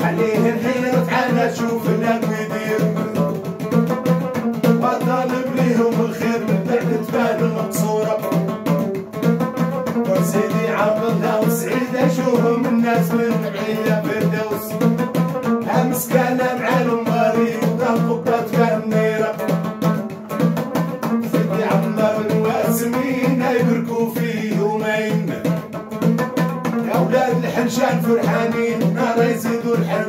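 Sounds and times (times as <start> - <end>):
man singing: 0.0 - 9.1, 9.9 - 20.4, 21.0 - 30.0
plucked lute strumming: 0.0 - 30.0.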